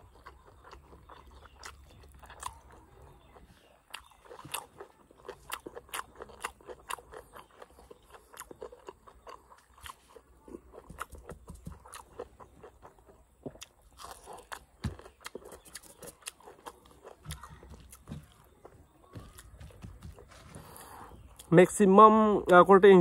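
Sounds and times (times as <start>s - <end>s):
person chewing with mouth smacks: 0.0s - 19.5s, 20.1s - 21.5s.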